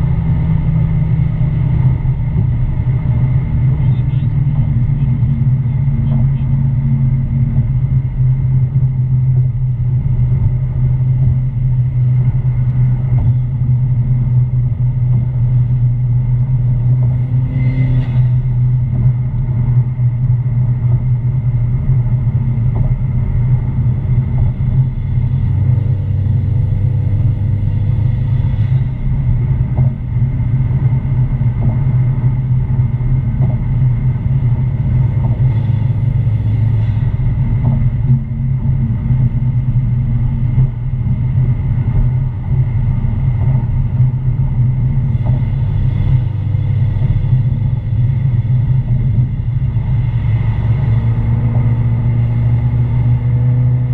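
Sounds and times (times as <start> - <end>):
car engine low drone: 0.0 - 53.9.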